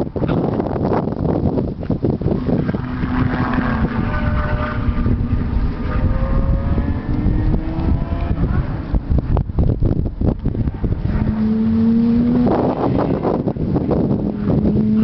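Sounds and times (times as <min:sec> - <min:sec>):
wind buffeting microphone: 0:00.0 - 0:15.0
distant race car engines droning: 0:01.9 - 0:15.0.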